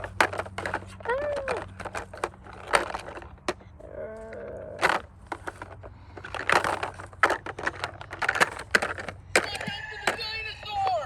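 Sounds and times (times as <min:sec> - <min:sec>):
plastic toys clattering: 0:00.0 - 0:11.0.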